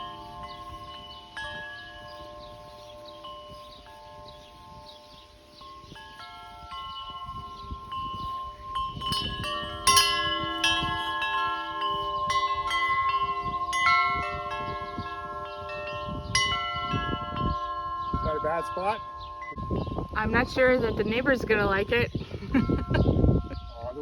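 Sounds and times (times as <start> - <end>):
metal wind chime ringing: 0.0 - 24.0.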